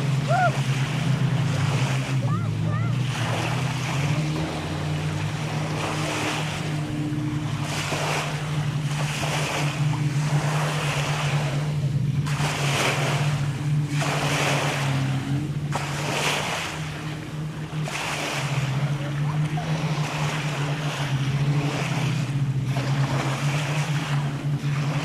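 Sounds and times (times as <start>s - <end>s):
small waves breaking on sand: 0.0s - 25.0s
steady low drone: 0.0s - 25.0s.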